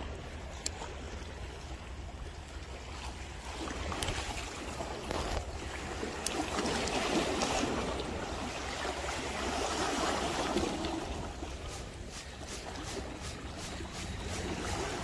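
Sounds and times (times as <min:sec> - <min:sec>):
waves splashing against rocks: 0:02.6 - 0:15.0.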